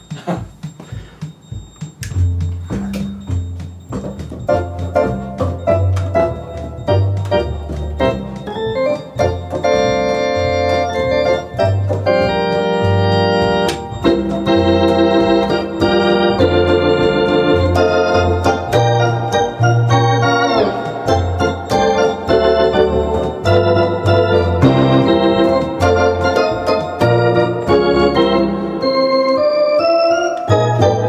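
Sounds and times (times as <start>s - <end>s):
drum machine beat: 0.0s - 31.0s
electronic organ chords and bass: 0.0s - 31.0s.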